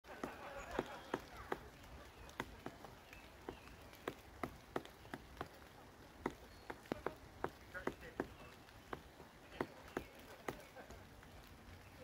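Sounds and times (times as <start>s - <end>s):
woodpecker pecking on bark: 0.1s - 12.0s.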